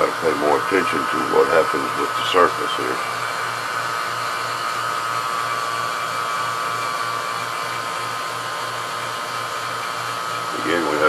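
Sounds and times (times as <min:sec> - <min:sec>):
vacuum pump whirring: 0:00.0 - 0:11.0.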